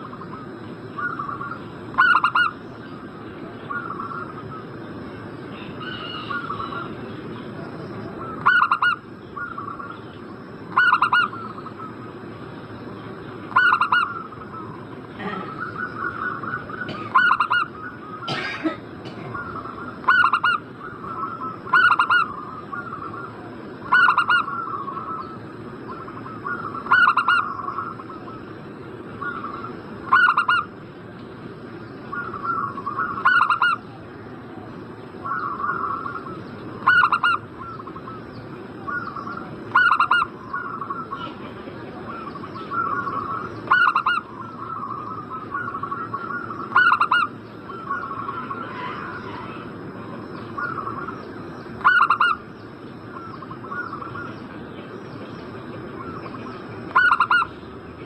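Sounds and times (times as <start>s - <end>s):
dove cooing: 0.0s - 4.7s, 5.5s - 10.0s, 10.7s - 12.1s, 13.5s - 28.6s, 29.2s - 30.8s, 32.0s - 52.4s, 53.1s - 54.4s, 55.8s - 57.6s.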